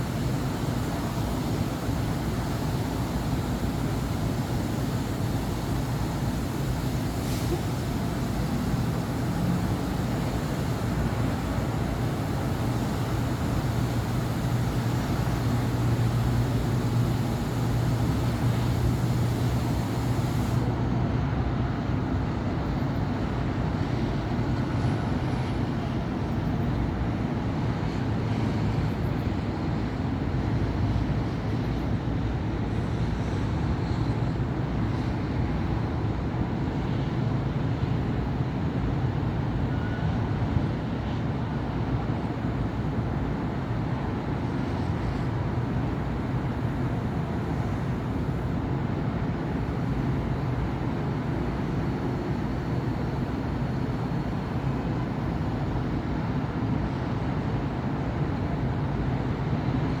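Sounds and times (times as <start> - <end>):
city street traffic: 0.0 - 60.0.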